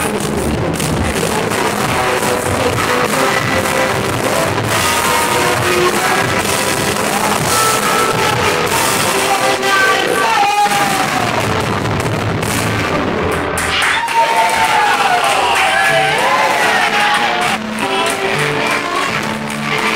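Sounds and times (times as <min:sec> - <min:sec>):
live rock band playing: 0:00.0 - 0:14.0, 0:15.7 - 0:19.9
crowd noise: 0:00.0 - 0:19.9.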